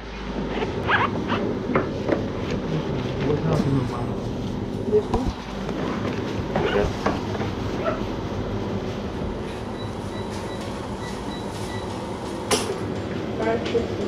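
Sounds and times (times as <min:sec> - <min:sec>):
low mechanical rumble and hum: 0:00.0 - 0:14.0.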